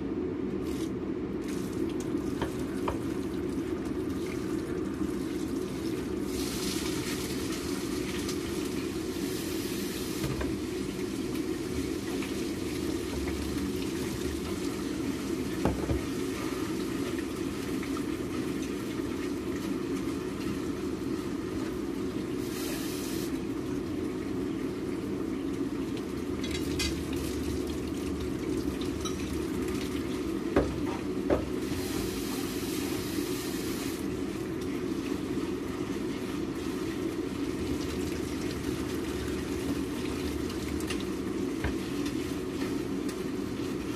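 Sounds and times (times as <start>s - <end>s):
kitchen hum: 0.0s - 43.9s.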